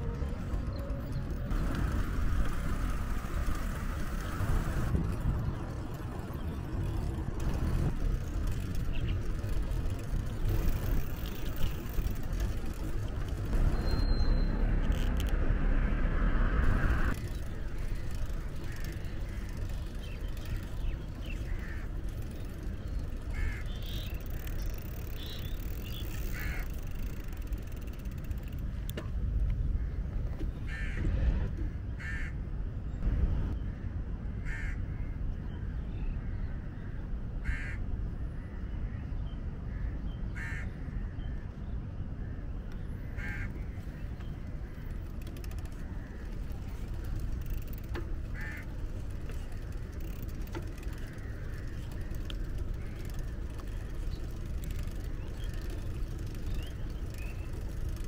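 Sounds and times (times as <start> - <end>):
passing traffic: 0.0 - 58.0
wind and road noise rumble: 0.0 - 58.0.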